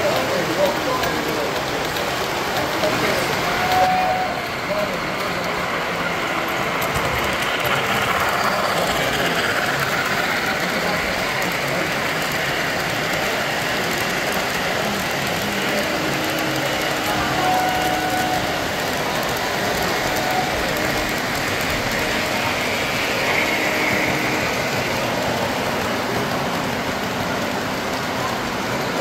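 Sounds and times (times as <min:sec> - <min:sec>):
model train wheels clattering on rails: 0:00.0 - 0:29.0.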